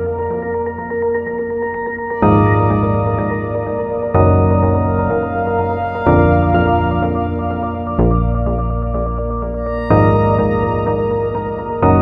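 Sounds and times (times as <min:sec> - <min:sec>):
ambient keyboard chords: 0:00.0 - 0:12.0.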